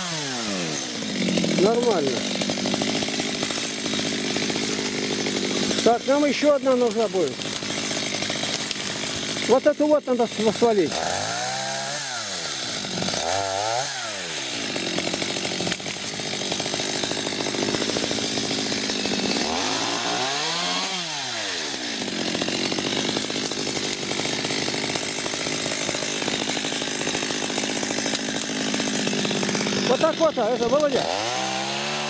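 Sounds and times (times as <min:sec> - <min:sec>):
chainsaw cutting tree: 0:00.0 - 0:32.0.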